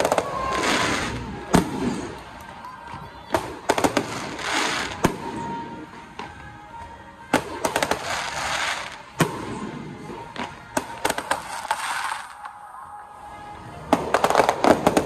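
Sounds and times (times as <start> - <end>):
fireworks cracking and popping: 0.0 - 6.6, 7.2 - 12.6, 13.8 - 15.0.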